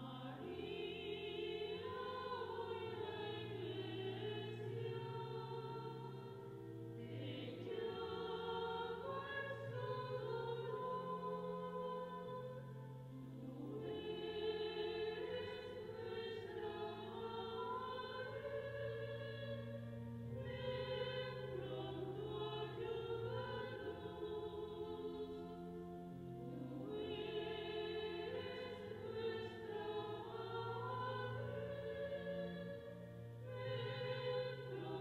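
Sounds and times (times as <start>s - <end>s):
choir singing sustained chords: 0.0s - 35.0s.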